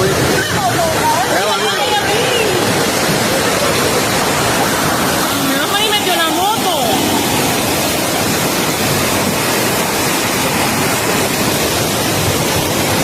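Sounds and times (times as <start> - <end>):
loud rush of water: 0.0 - 13.0.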